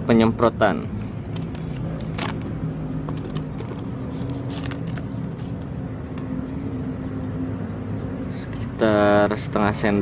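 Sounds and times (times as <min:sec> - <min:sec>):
engine running hum: 0:00.0 - 0:10.0.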